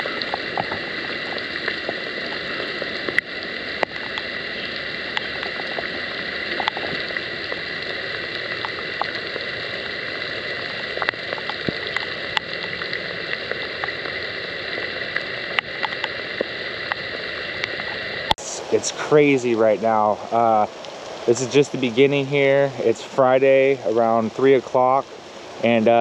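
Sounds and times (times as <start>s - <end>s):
heavy rain: 0.0s - 26.0s
raindrops tapping hard surfaces: 0.0s - 26.0s.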